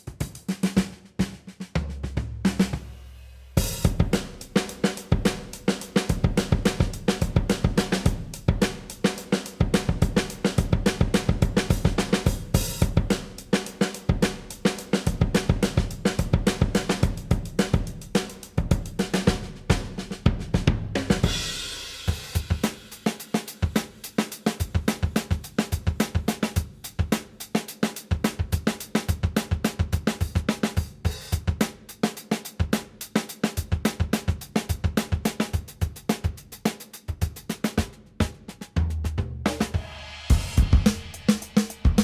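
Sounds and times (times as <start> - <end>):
drum kit groove: 0.0 - 42.0.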